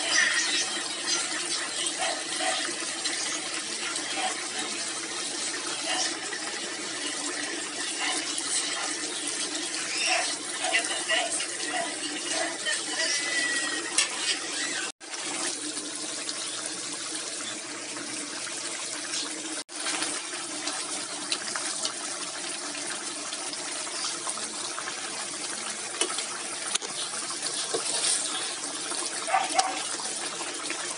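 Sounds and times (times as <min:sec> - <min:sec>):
sauce simmering and bubbling: 0:00.0 - 0:30.9.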